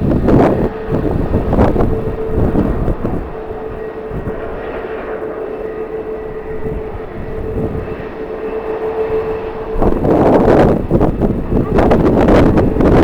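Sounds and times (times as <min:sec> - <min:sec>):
jet engines whining: 0:00.0 - 0:13.0
wind rumble on microphone: 0:00.0 - 0:13.0.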